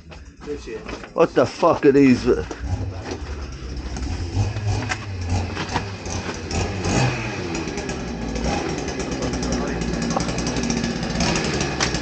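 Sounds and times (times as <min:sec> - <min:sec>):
chainsaw engine revving: 0:02.0 - 0:12.0.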